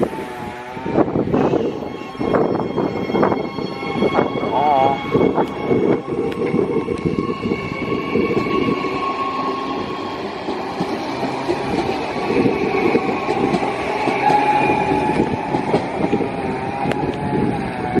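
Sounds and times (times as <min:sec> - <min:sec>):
electric train rumbling: 0:00.0 - 0:18.0
faint train whine: 0:00.0 - 0:18.0.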